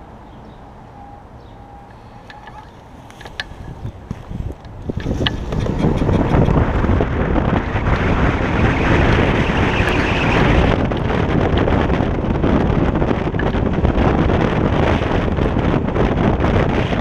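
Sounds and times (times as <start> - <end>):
tyres rumbling on asphalt: 0.0 - 17.0
wind buffeting microphone: 0.0 - 17.0.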